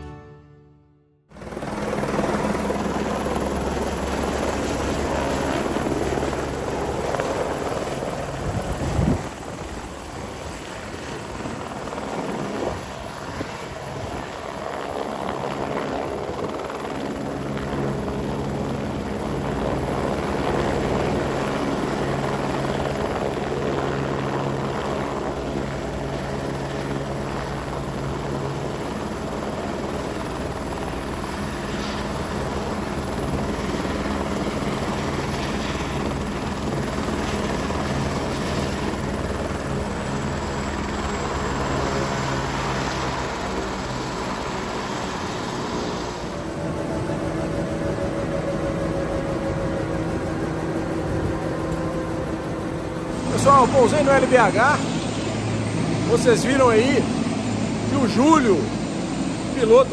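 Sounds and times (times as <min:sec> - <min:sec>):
helicopter turbine and rotor hum: 0:01.3 - 0:59.9.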